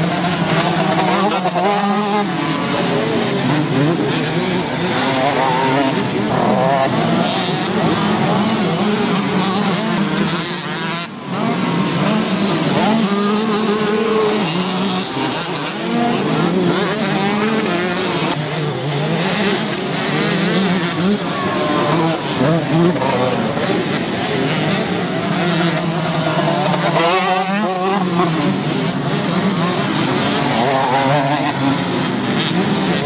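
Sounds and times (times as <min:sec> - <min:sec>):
motocross bike engines revving: 0:00.0 - 0:33.0.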